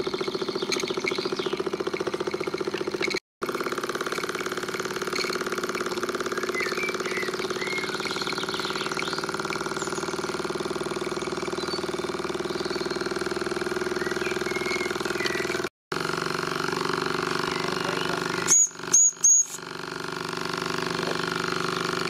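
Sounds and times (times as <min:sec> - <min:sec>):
model steam engine chuffing: 0:00.0 - 0:22.0.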